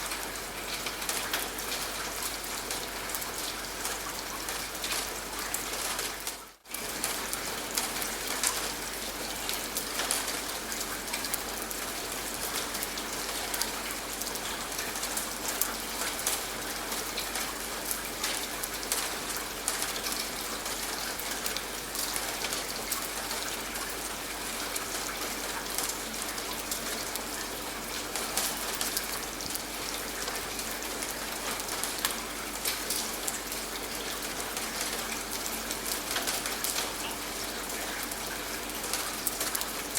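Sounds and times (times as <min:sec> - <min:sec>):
raindrops ticking on a surface: 0:00.0 - 0:39.9.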